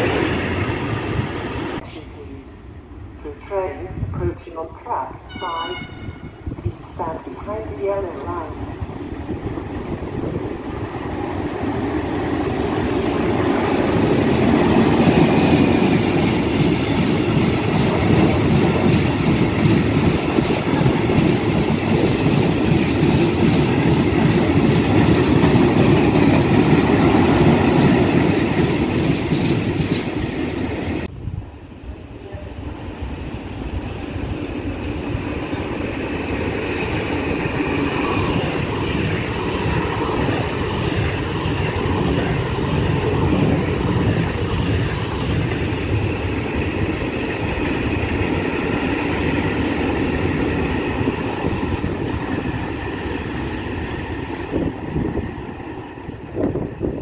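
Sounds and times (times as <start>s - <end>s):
freight train rolling past: 0.0s - 3.3s, 5.3s - 57.0s
electric train rolling past: 0.0s - 57.0s.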